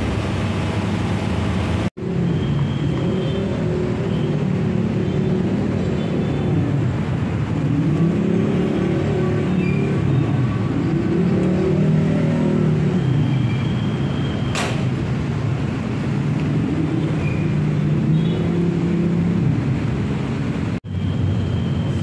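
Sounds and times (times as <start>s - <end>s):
engine noise: 0.0s - 22.0s.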